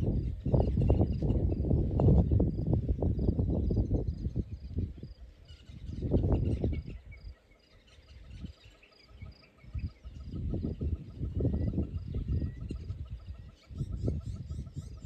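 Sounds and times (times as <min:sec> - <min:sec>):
wind gusting over microphone: 0:00.0 - 0:07.4, 0:08.0 - 0:15.0.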